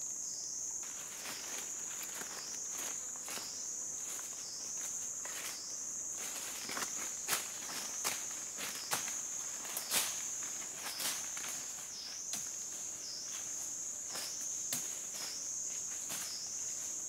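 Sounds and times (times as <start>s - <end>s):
insects buzzing: 0.0s - 17.0s
footsteps crunching through dry leaves: 0.8s - 17.0s.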